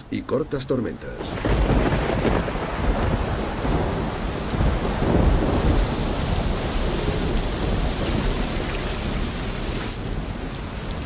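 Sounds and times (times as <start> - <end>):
heavy rain falling: 0.0 - 11.0
rolling thunder rumble: 1.0 - 10.4.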